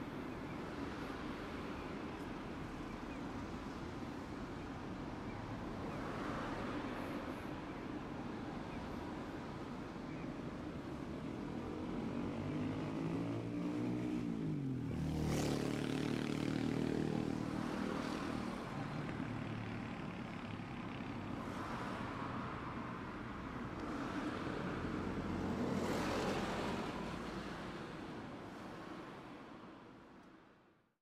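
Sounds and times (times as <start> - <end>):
street traffic noise: 0.0 - 30.9.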